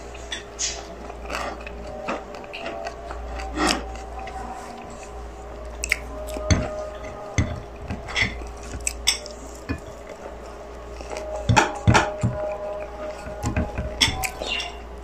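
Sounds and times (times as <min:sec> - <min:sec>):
chewing food: 0:00.0 - 0:15.0
steady low hum: 0:00.0 - 0:15.0.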